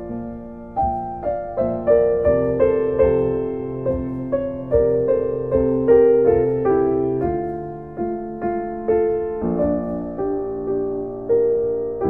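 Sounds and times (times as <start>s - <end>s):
gentle solo piano: 0.0s - 12.0s.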